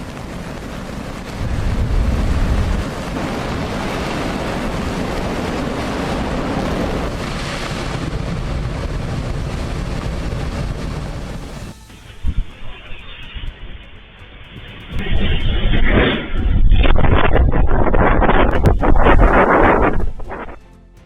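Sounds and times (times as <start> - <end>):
wind buffeting microphone: 0.0 - 12.5, 14.9 - 20.6
ocean waves breaking: 0.0 - 13.9, 14.5 - 20.6.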